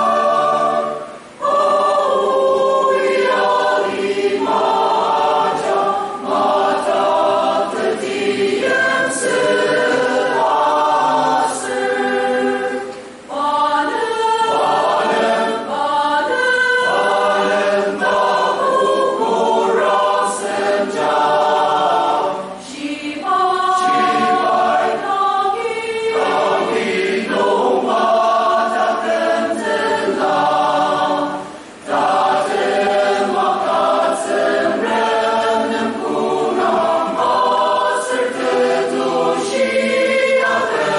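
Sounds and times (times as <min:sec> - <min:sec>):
mixed choir singing: 0:00.0 - 0:40.9.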